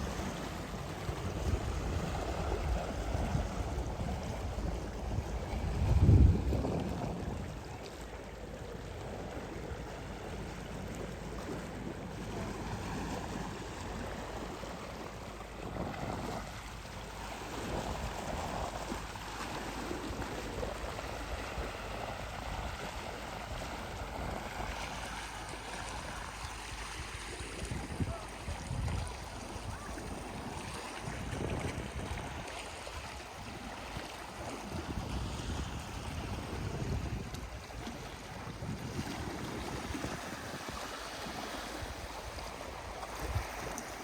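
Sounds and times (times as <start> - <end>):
wind rumbling on microphone: 0.0 - 15.0, 15.6 - 44.0
waves washing onto shore: 0.0 - 44.0.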